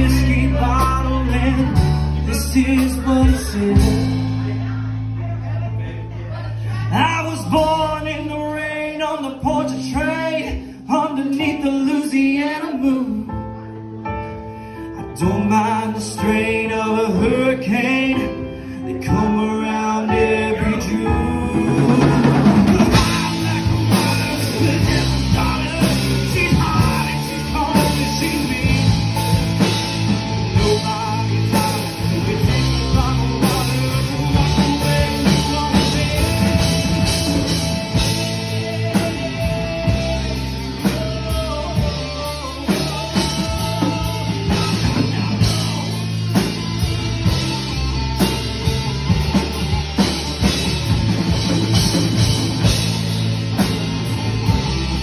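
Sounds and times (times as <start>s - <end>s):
drum kit: 0.0s - 5.5s, 15.2s - 55.0s
bass guitar: 0.0s - 55.0s
electric guitar: 0.0s - 55.0s
keyboard: 0.0s - 55.0s.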